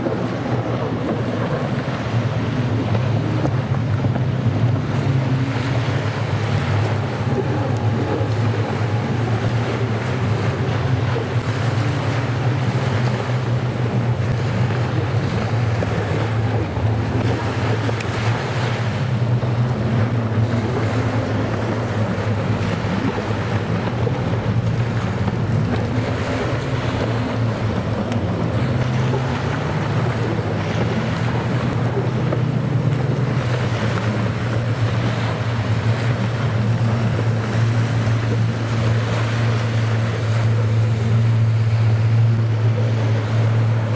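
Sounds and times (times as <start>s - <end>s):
jet ski engines droning: 0.0s - 43.9s
surf: 0.0s - 43.9s
wind buffeting microphone: 0.0s - 43.9s.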